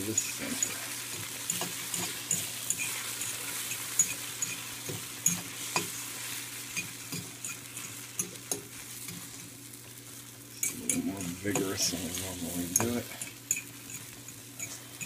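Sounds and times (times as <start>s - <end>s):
fork scraping against pan: 0.0s - 9.5s, 10.6s - 15.0s
eggs sizzling in butter: 0.0s - 15.0s.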